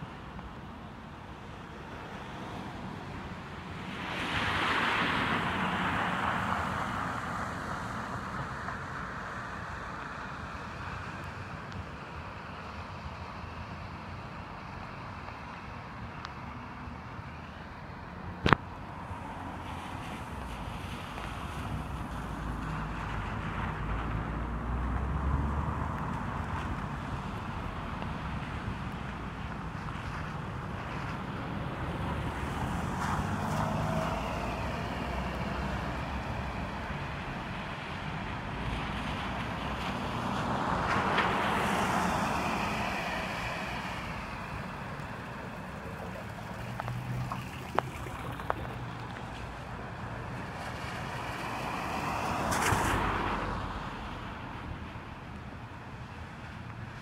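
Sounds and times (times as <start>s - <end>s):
low traffic rumble: 0.0s - 57.0s
tyres hissing on wet road: 1.5s - 13.5s, 18.9s - 55.4s.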